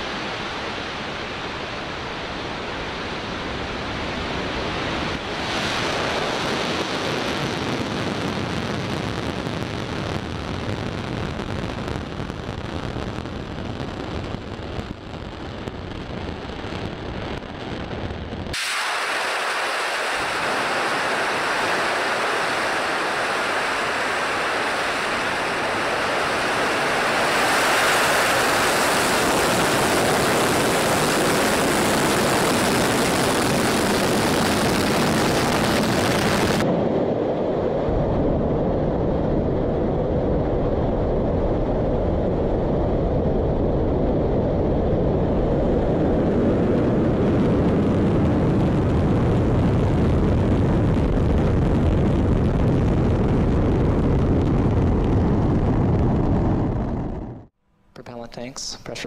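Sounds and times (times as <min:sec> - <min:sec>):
rocket engine roaring: 0:00.0 - 0:57.5.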